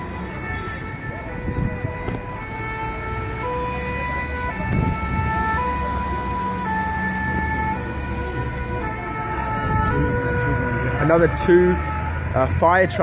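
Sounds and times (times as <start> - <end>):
traffic rumble: 0.0 - 13.0
two-tone emergency siren: 0.0 - 13.0.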